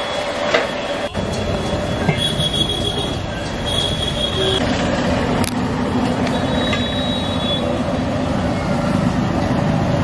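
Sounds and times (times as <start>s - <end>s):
busy street stall din: 0.0s - 10.0s.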